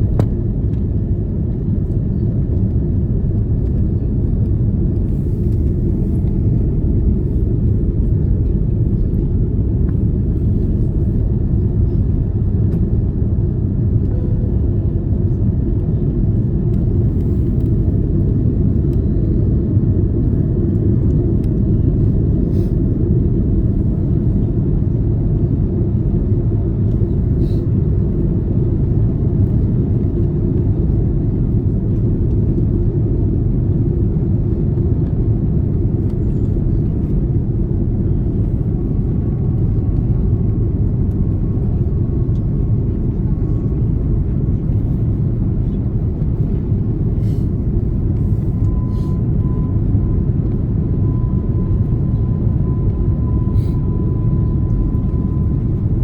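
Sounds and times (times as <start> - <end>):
airliner cabin engine roar: 0.0 - 56.0
faint steady whine: 0.0 - 56.0.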